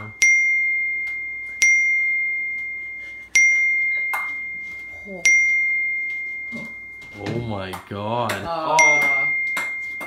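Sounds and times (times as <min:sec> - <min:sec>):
small bell dinging: 0:00.0 - 0:07.9, 0:08.6 - 0:10.0.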